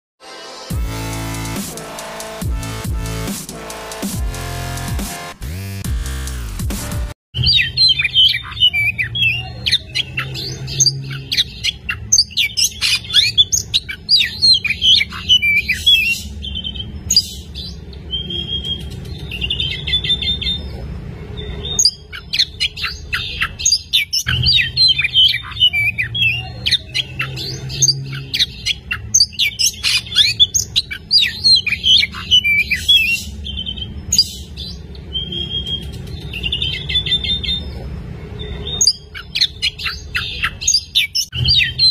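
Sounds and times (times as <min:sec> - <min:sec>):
bird singing: 0:07.4 - 0:41.9.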